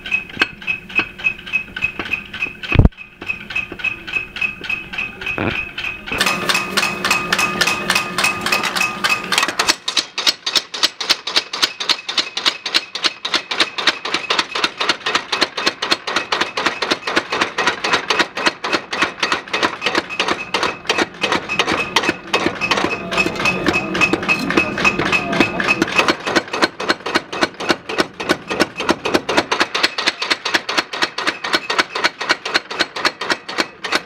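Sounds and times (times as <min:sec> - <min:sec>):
power hammer pounding steel: 0:00.0 - 0:34.0.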